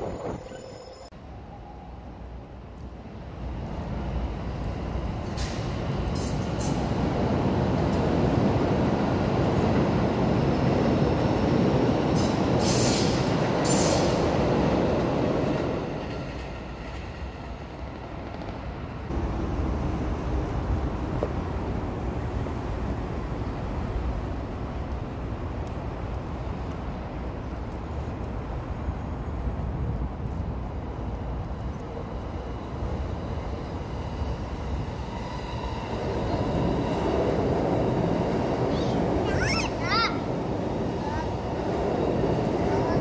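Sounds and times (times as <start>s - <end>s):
electric train rumbling past: 0.0s - 43.0s.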